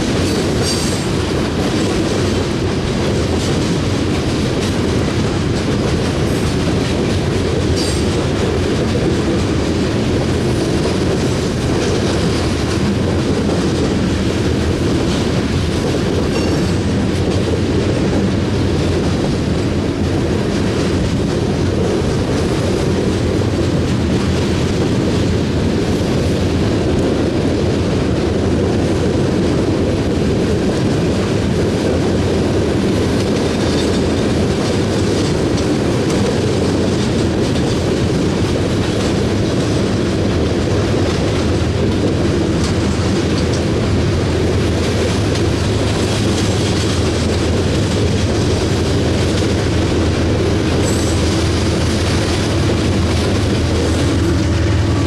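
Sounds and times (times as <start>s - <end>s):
locomotive engine drone: 0.0s - 55.0s
train wheels clattering over rail joints: 0.0s - 55.0s.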